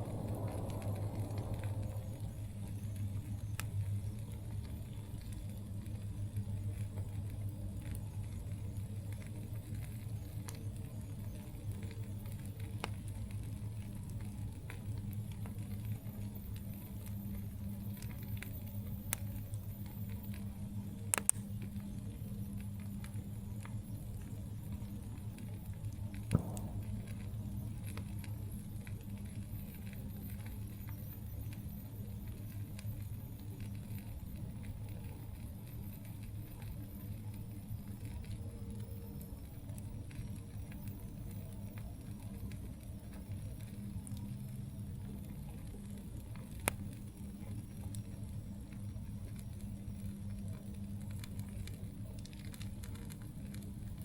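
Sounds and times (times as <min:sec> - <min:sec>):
campfire crackling: 0:00.0 - 0:54.0
sharp fire pops: 0:00.0 - 0:54.0
steady low rumble: 0:00.0 - 0:54.0.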